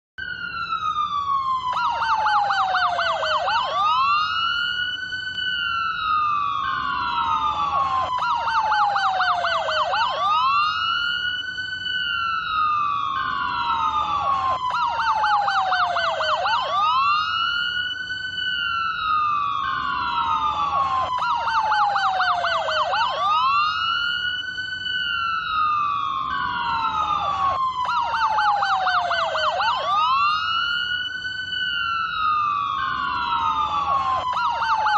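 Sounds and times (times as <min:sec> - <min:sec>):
police siren wailing and yelping: 0:00.2 - 0:34.9.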